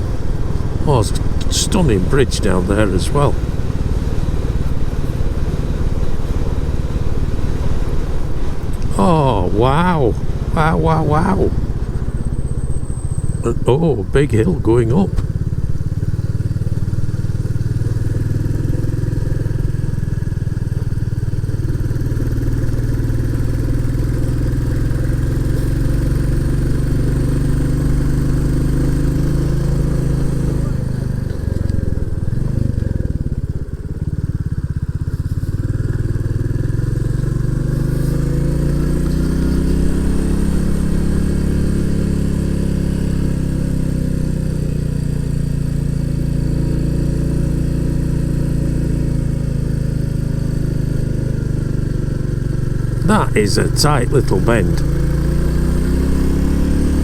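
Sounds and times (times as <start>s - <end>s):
motorcycle engine pulling uphill: 0.0s - 57.0s.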